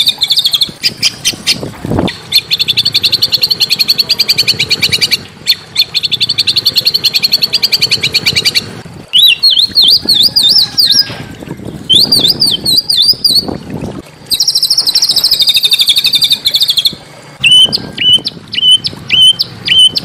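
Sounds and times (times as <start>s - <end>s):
bird chipping notes: 0.0s - 11.1s, 14.3s - 20.0s
bird whistled phrase: 2.3s - 11.1s, 11.9s - 13.4s, 14.3s - 20.0s.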